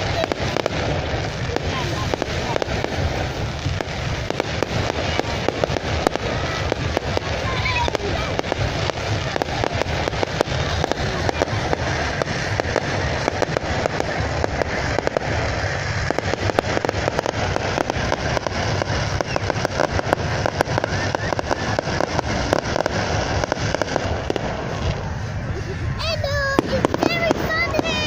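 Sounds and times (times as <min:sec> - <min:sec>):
fireworks crackling: 0:00.0 - 0:28.0
loud sharp fireworks reports: 0:00.0 - 0:28.0.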